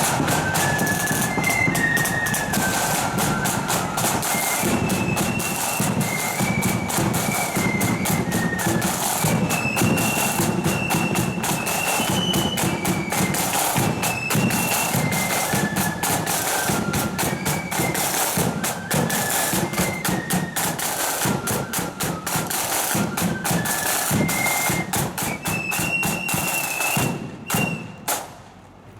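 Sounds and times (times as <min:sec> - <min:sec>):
shrill flute melody: 0:00.0 - 0:28.2
rapid snare drumming: 0:00.0 - 0:28.4.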